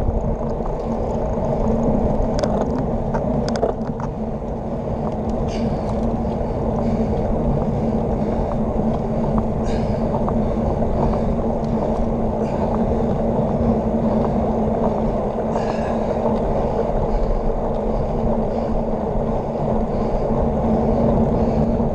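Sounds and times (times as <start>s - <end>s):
bike tyres rolling on asphalt: 0.0s - 21.9s
wind rushing over microphone: 0.0s - 21.9s.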